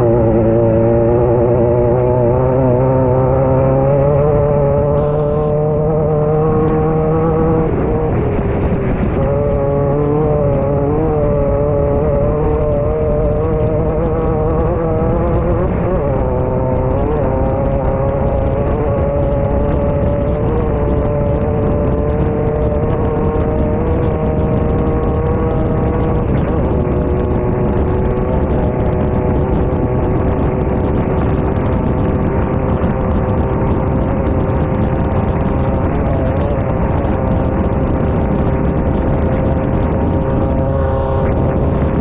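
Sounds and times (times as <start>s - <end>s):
low rumble: 0.0s - 42.0s
race car engine running hard: 0.0s - 42.0s.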